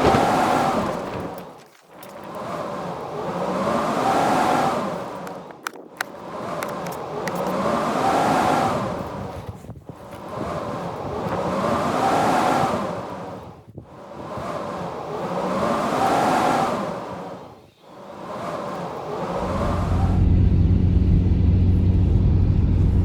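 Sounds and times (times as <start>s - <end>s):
wind howling in gusts: 0.0s - 23.0s.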